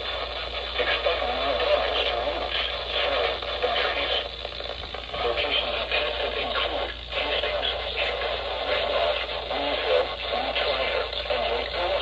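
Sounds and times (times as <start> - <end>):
low hum and hiss: 0.0 - 12.0
muffled radio voice: 0.0 - 12.0.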